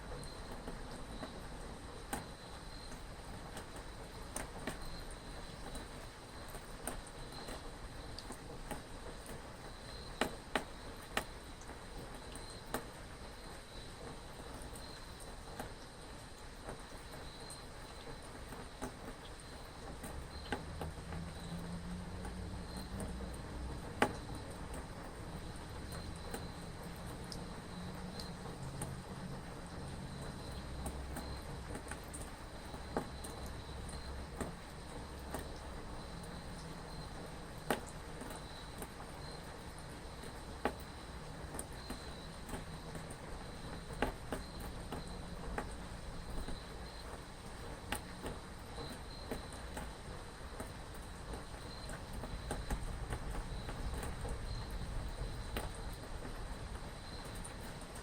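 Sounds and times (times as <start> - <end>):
crickets chirring: 0.0 - 58.0
rain hiss: 0.0 - 58.0
raindrops ticking close by: 0.0 - 58.0
drip-like clicks: 2.1 - 5.9, 6.5 - 13.0, 16.6 - 47.2, 47.8 - 50.0, 50.6 - 56.4, 57.1 - 58.0.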